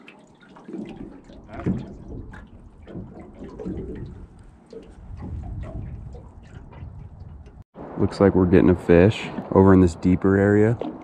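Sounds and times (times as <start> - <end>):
water lapping against boat hull: 0.0 - 7.7, 9.3 - 11.0.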